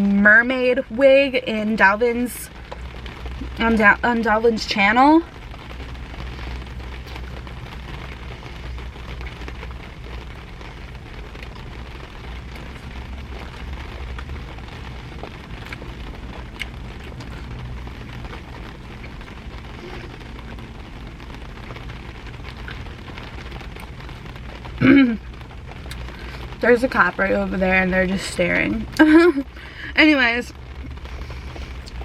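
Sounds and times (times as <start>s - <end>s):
rain on a car roof: 0.0s - 32.0s
raindrop ticks: 0.0s - 32.0s
steady low hum: 0.0s - 32.0s.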